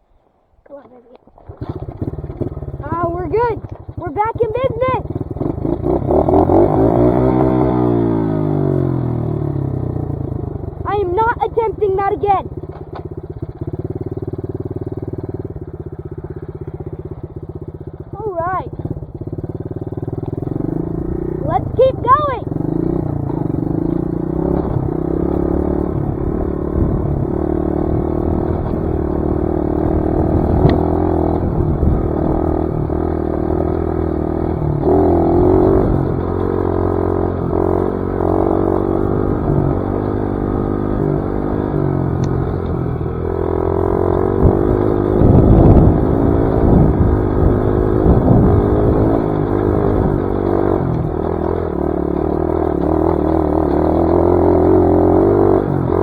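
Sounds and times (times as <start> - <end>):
dirt bike engine: 0.7 - 56.0.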